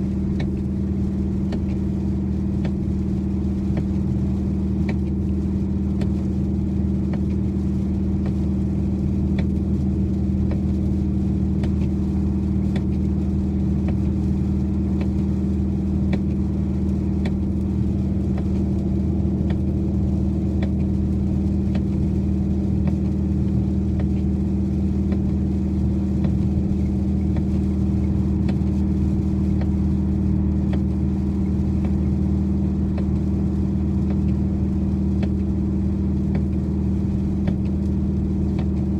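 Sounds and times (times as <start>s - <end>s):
car engine cruising drone: 0.0s - 38.9s
faint ticks: 0.3s - 38.9s.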